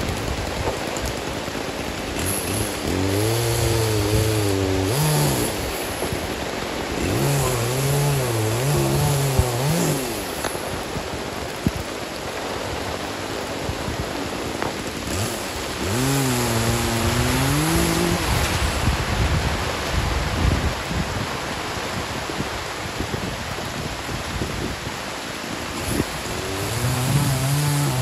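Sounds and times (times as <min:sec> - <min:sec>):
gusting wind: 0:00.0 - 0:28.0
heavy rain rushing: 0:00.0 - 0:28.0.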